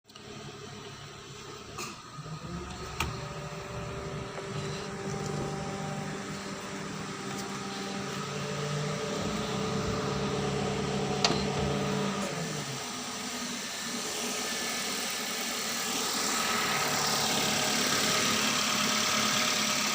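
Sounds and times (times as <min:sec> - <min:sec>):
car engine idling: 0:00.2 - 0:19.9.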